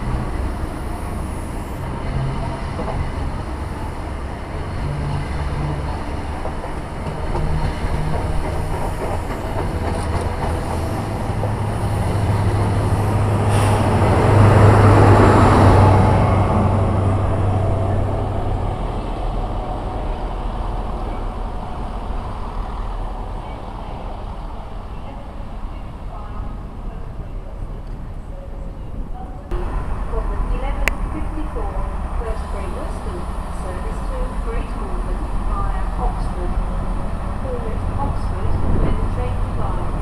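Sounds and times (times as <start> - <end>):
train engine hum: 0.0 - 40.0
wheels rumbling on rails: 0.0 - 40.0.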